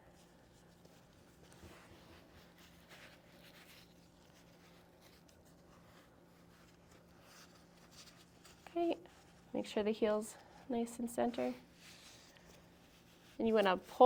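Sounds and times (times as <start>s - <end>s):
fabric rustling and rubbing: 0.0s - 14.0s
low steady hum: 0.0s - 14.0s.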